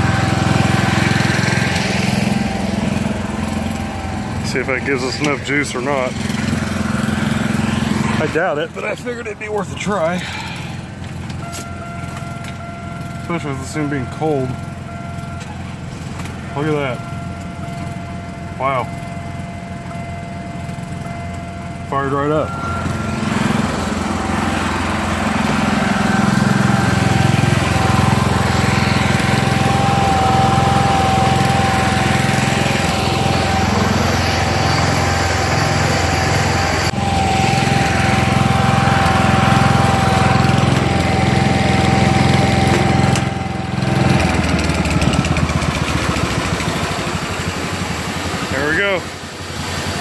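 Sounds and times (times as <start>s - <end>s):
high whine: 0.0s - 49.0s
garden tractor engine running: 0.0s - 50.0s.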